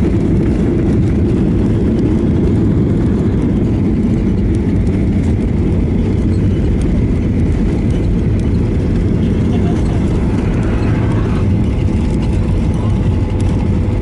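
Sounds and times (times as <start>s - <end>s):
jet engine rumble in cabin: 0.0s - 14.0s
wheels running on runway: 0.0s - 14.0s.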